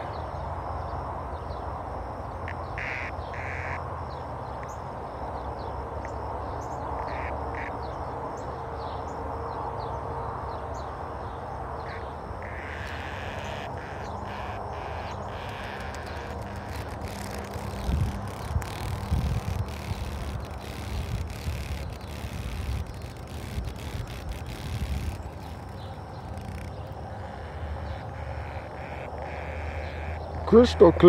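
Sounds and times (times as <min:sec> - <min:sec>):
steady background hiss: 0:00.0 - 0:31.0
cicada buzzing squawks: 0:02.3 - 0:09.2, 0:10.6 - 0:31.0.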